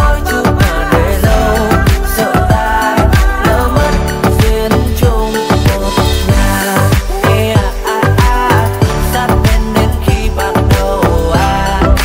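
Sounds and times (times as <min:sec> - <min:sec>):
pop music with deep bass: 0:00.0 - 0:12.0.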